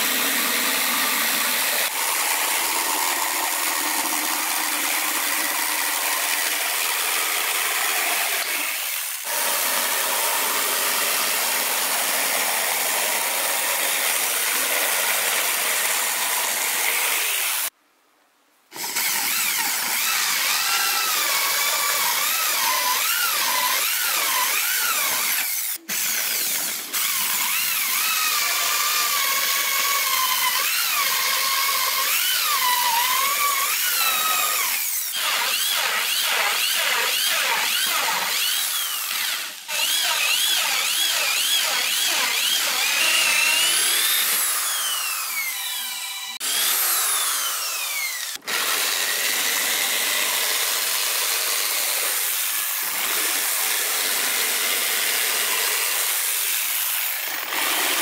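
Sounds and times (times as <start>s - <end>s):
electric drill boring through plywood: 0.0s - 17.7s, 18.7s - 58.0s
jigsaw cutting plywood: 0.0s - 17.7s, 18.7s - 58.0s.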